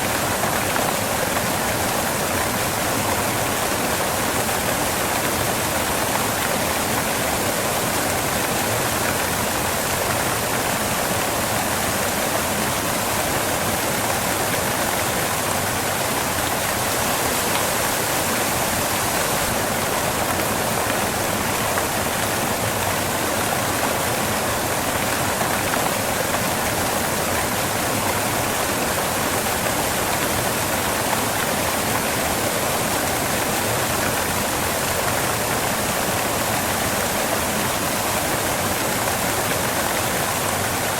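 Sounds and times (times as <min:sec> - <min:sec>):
waterfall crashing onto rocks: 0:00.0 - 0:40.9.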